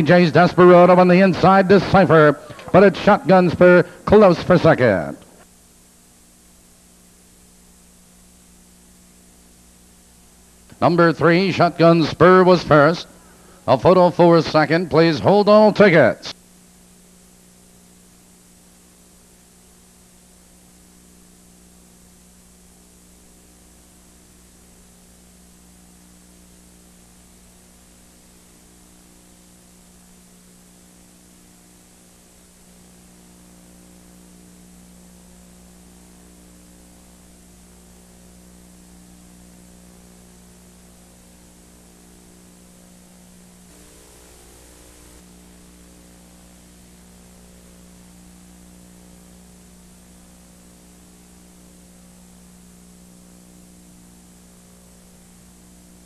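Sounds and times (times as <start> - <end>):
electrical hum: 0.0 - 56.0
line noise hiss: 0.0 - 56.0.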